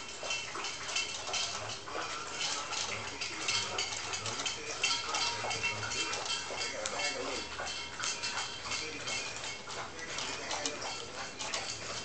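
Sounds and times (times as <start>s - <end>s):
rabbit licking metal water spout: 0.0s - 12.0s.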